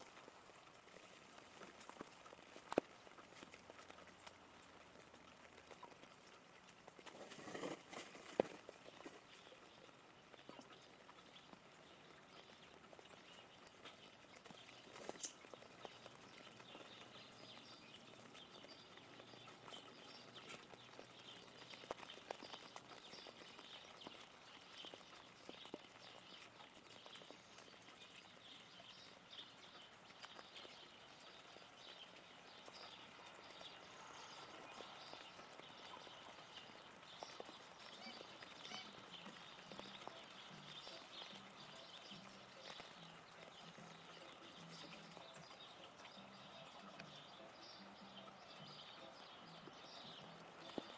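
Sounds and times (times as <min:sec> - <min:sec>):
raindrops dripping on leaves: 0:00.0 - 0:50.9
soft steady hiss: 0:00.0 - 0:50.9.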